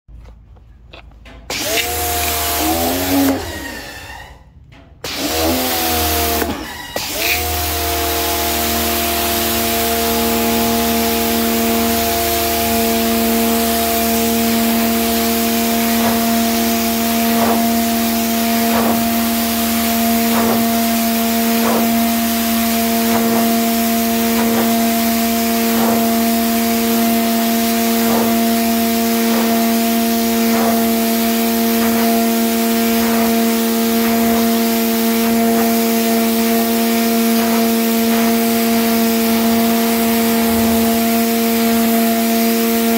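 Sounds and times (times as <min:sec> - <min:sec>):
pressure washer motor humming: 0:01.5 - 0:04.1, 0:05.0 - 0:42.9
high-pressure water jet hissing: 0:05.1 - 0:42.9.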